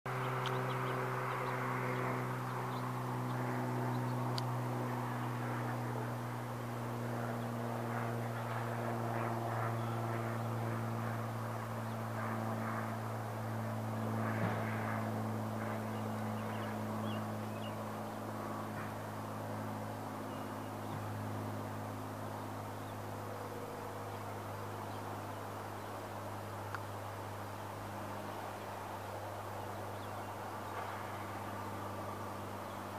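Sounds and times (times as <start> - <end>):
faint outdoor background noise: 0.1 - 32.9
low machine hum: 0.1 - 32.9.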